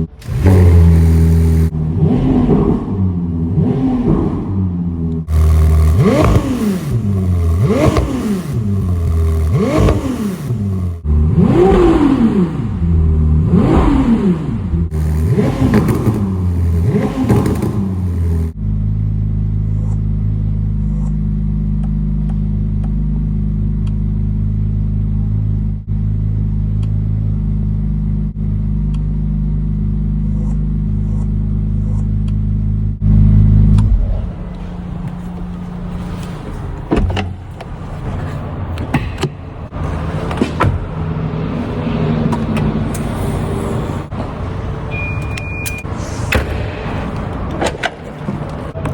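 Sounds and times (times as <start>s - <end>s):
car engine revving: 0.0s - 44.9s
car engine idling: 0.0s - 45.0s.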